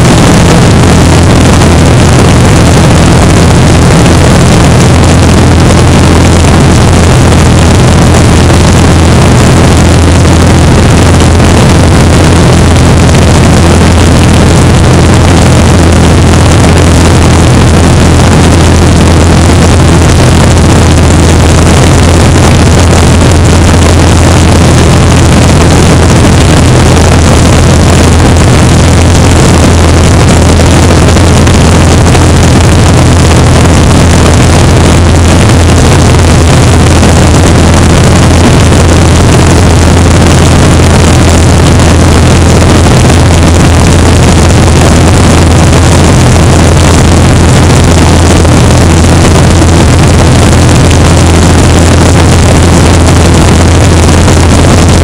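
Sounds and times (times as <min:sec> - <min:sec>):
plane engine droning: 0:00.0 - 0:52.6
wind rushing over microphone: 0:00.0 - 0:55.0.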